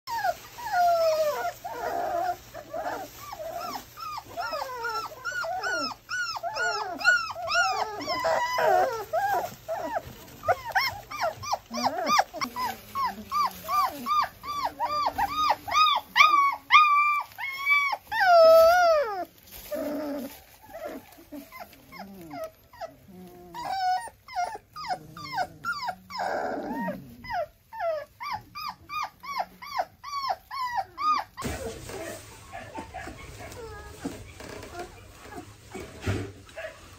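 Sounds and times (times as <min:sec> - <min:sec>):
puppies squealing and whimpering: 0:00.1 - 0:36.7.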